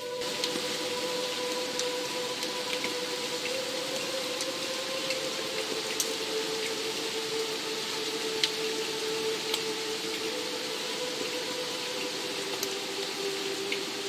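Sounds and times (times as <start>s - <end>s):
held ambient music note: 0.0s - 14.0s
rain hiss: 0.0s - 14.0s
sharp drips: 0.1s - 14.0s.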